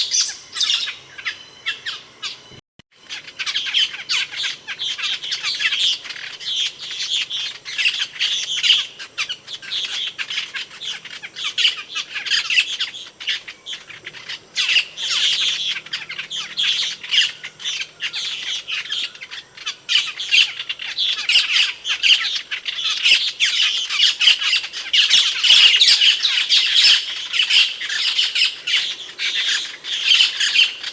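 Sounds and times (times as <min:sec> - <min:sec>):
starling chirps and squawks: 0:00.0 - 0:30.9.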